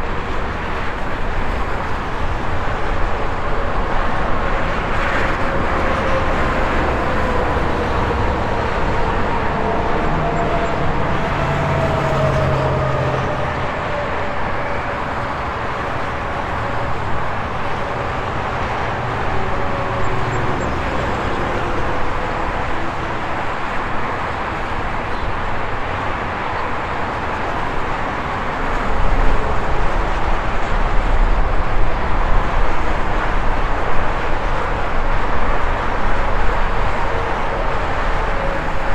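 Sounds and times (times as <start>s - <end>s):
highway traffic passing: 0.0s - 38.9s
large vehicle rumble: 0.0s - 38.9s.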